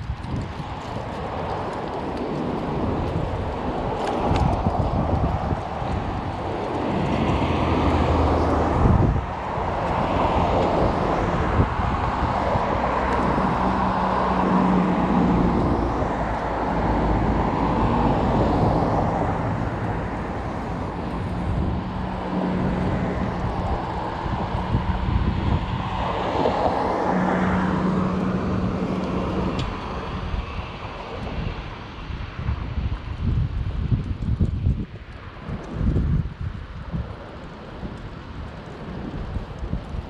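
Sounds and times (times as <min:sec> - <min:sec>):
cars driving past: 0:00.0 - 0:33.1.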